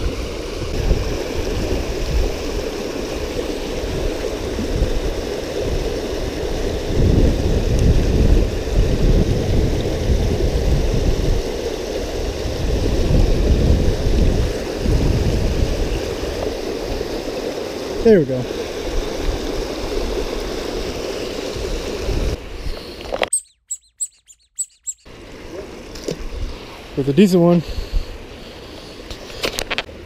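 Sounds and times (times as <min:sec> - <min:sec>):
river water rushing: 0:00.0 - 0:22.6, 0:25.1 - 0:30.0.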